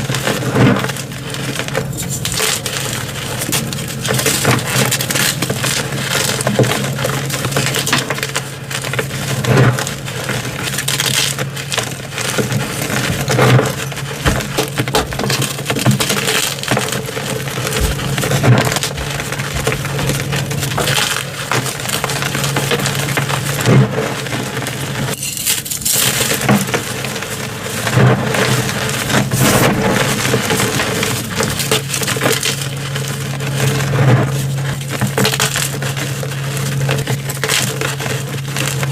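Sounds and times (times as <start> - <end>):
chalk crunching and cracking: 0.0 - 38.9.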